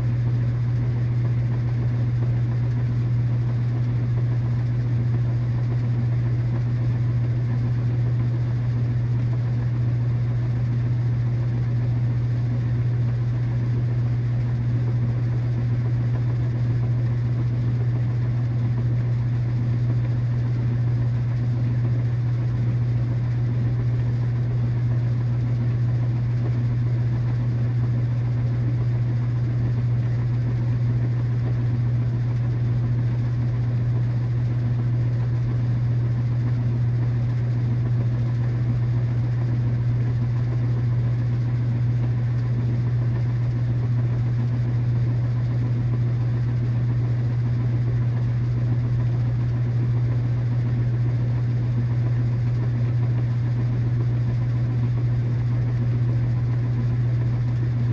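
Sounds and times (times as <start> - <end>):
washing machine humming: 0.0 - 57.9.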